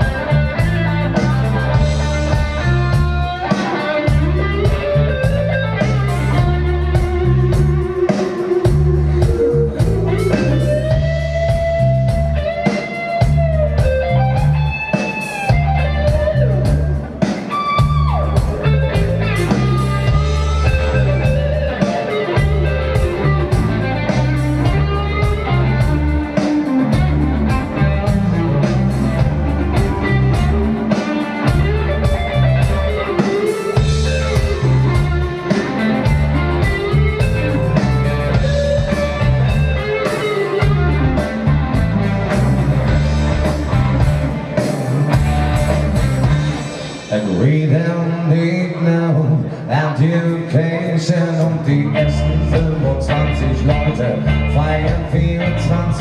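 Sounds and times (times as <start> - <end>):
drum kit: 0.0 - 48.8, 50.0 - 56.0
bass line: 0.0 - 56.0
electric guitar: 0.0 - 56.0.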